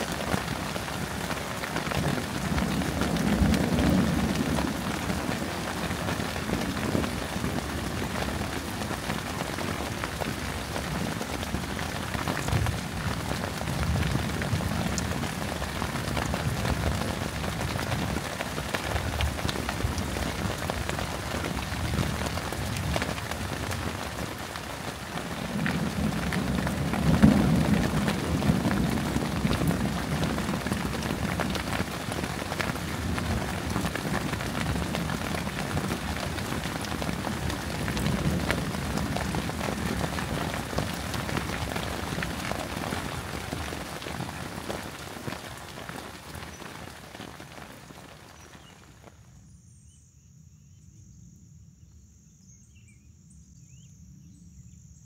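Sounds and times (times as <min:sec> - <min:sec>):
low roll of thunder: 0:00.0 - 0:45.3
rain drop ticks: 0:00.0 - 0:49.1
steady rain falling: 0:00.0 - 0:49.4.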